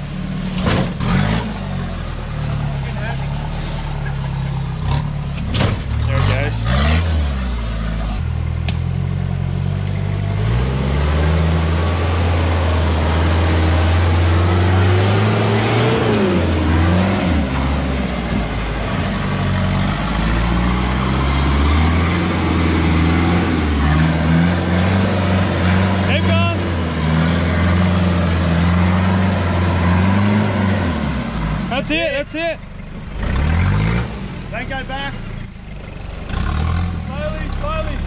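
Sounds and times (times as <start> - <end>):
truck engine revving under load: 0.0 - 38.0.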